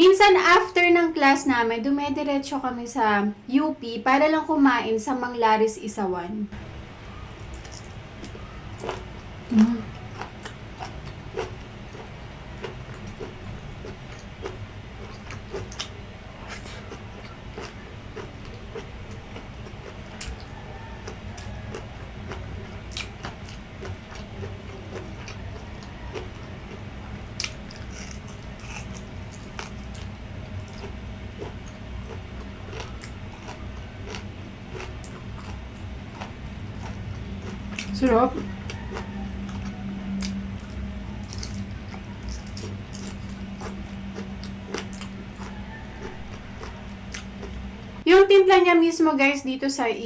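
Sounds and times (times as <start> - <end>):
steady low hum: 0.0 - 50.0
chewing and biting food: 6.6 - 48.0.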